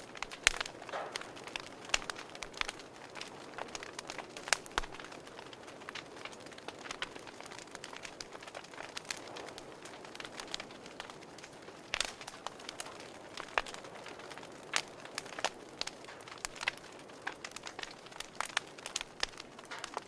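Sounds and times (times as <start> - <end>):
soft steady hiss: 0.0 - 20.0
wood fire crackling and popping: 0.0 - 20.0.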